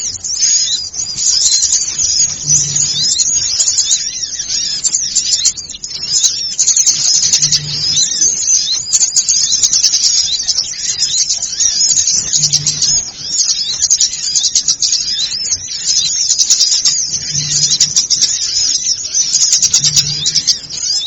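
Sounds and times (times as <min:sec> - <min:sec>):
songbirds chirping and twittering: 0:00.0 - 0:21.0.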